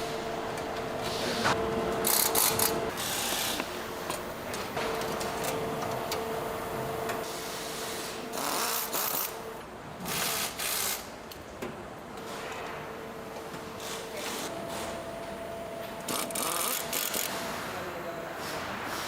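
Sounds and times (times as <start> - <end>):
workshop machine whining: 0.0 - 9.8, 12.4 - 19.0.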